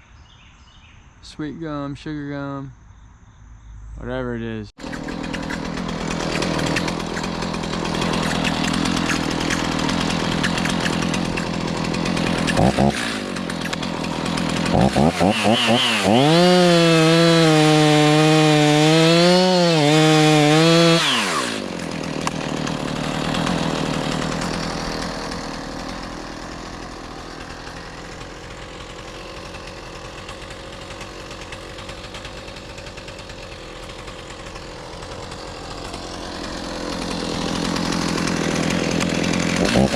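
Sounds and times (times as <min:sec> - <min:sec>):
chainsaw running: 0:04.8 - 0:39.9.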